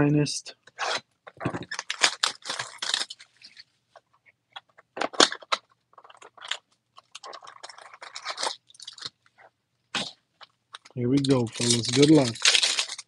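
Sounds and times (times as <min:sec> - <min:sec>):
crinkling and crunching: 0:00.6 - 0:13.0.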